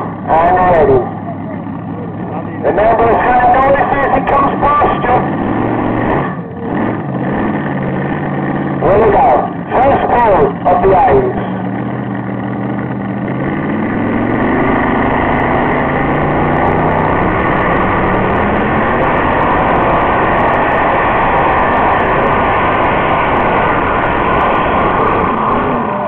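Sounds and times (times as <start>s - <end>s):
tractor engine revving at full throttle: 0.0s - 26.0s.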